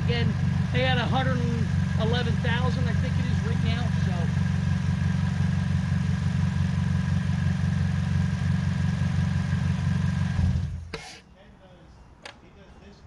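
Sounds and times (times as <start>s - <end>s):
car engine idling: 0.0s - 11.2s
faint engine whine: 0.0s - 13.0s.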